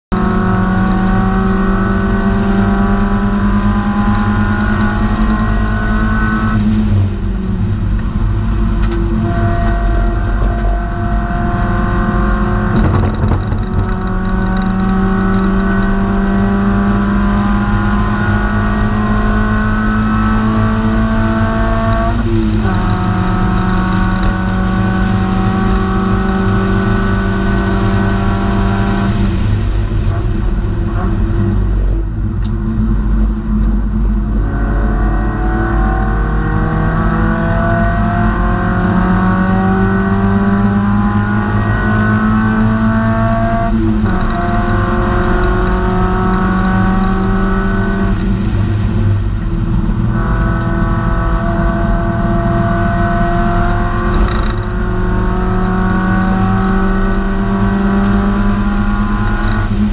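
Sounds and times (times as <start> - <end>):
car engine accelerating hard: 0.1 - 59.9
wind noise: 0.1 - 59.9.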